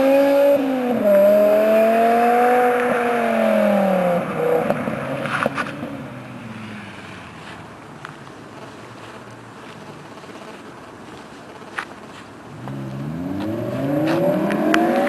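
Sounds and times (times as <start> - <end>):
car engine at high revs: 0.0 - 10.2, 12.5 - 15.0
exhaust crackles: 0.0 - 15.0.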